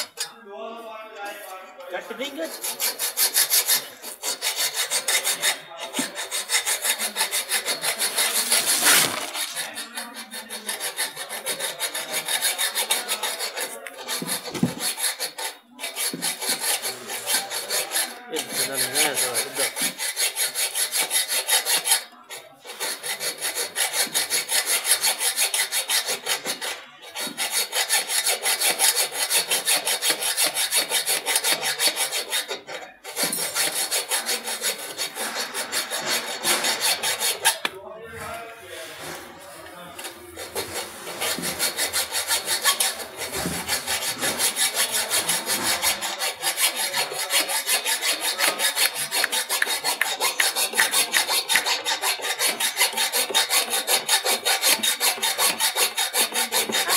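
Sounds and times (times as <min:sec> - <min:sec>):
hacksaw cutting metal: 0:00.0 - 0:00.4, 0:02.0 - 0:37.8, 0:40.0 - 0:56.9.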